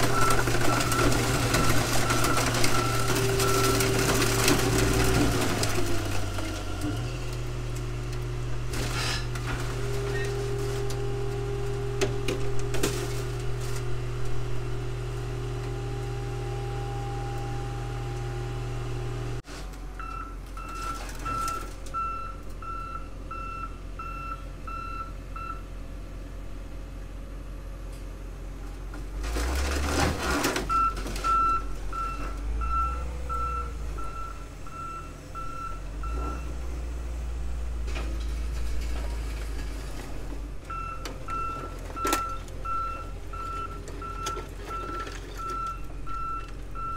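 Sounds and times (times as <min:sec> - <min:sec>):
car crusher engine running: 0:00.0 - 0:46.9.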